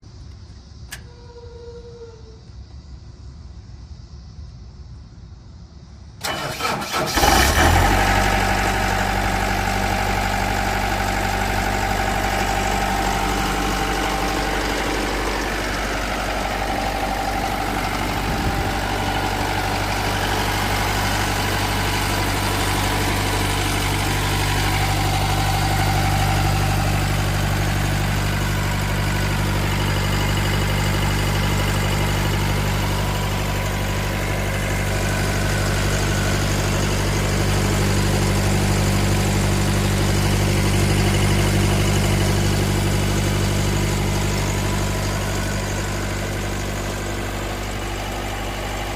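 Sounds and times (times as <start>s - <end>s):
diesel engine starting and idling: 6.2s - 48.9s.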